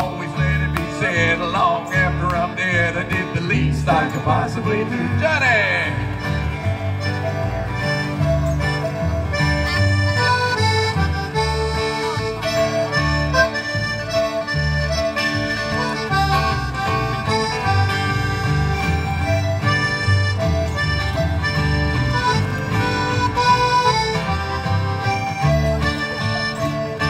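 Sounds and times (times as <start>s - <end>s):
country band playing: 0.0s - 27.0s
sustained lead melody: 0.0s - 27.0s.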